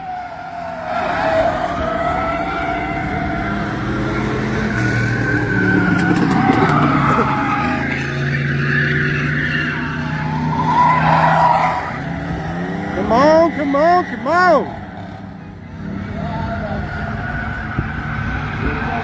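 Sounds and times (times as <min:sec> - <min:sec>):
stock car engines racing: 0:00.0 - 0:19.0.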